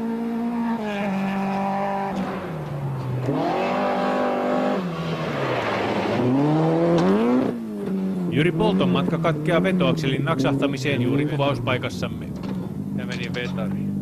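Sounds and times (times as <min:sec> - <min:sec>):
rally car engines revving: 0:00.0 - 0:14.0.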